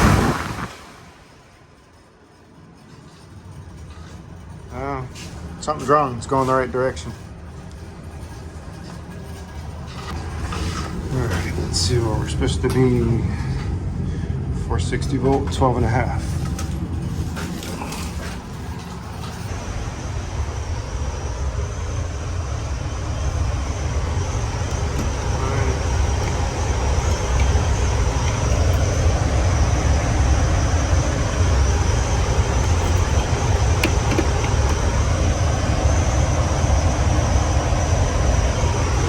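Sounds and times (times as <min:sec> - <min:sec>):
blower fan rumble: 0:00.0 - 0:39.0
thin high whine: 0:00.0 - 0:39.0.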